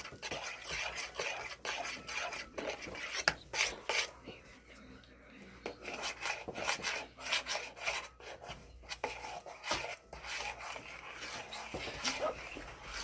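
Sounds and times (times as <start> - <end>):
utensil stirring thick dough: 0.0 - 4.8, 5.4 - 13.0.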